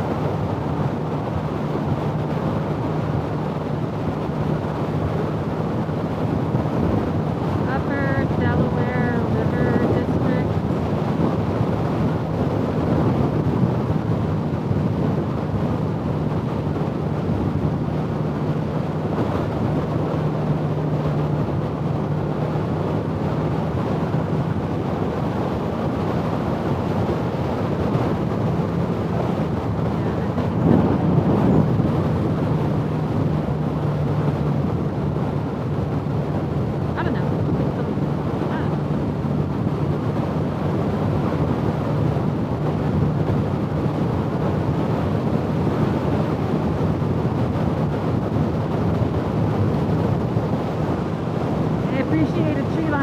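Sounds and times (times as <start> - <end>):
motorcycle engine hum: 0.0 - 53.0
wind rushing over microphone: 0.0 - 53.0.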